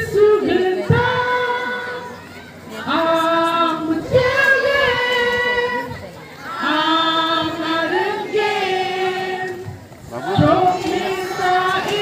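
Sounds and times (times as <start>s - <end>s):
group singing in unison: 0.0s - 2.1s, 2.8s - 12.0s.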